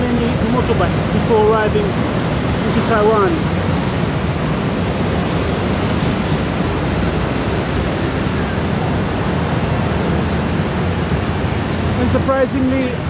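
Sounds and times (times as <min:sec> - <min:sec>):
motorbike and scooter traffic: 0:00.0 - 0:13.0.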